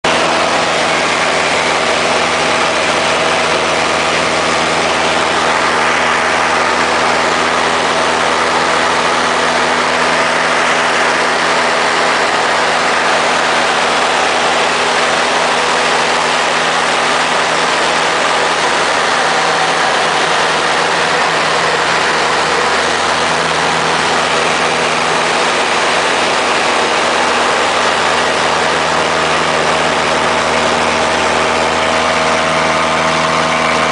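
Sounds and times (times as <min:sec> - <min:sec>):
airplane engine and propeller drone: 0:00.0 - 0:33.9
rushing airflow: 0:00.0 - 0:33.9.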